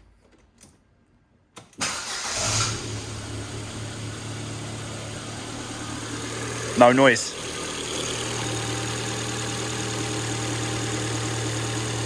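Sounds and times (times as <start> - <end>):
car engine starting and idling: 1.8 - 12.0.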